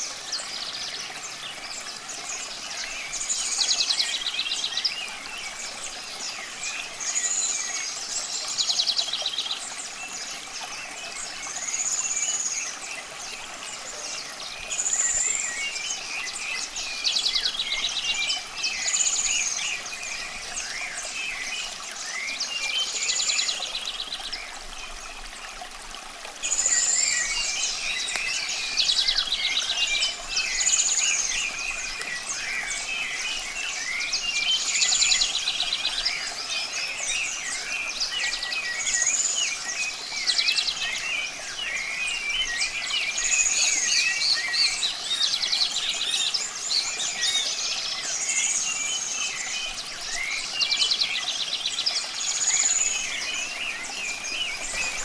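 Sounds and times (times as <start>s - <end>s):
running water hiss: 0.0s - 55.0s
songbirds singing: 0.0s - 55.0s.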